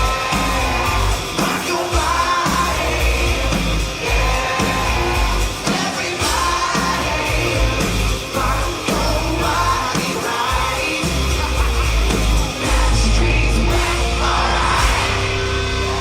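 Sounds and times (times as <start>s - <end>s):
loud music with yelled vocals: 0.0s - 16.0s.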